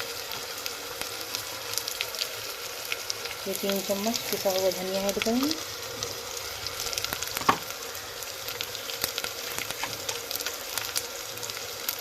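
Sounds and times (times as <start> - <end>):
mince sizzling in oil: 0.0 - 12.0.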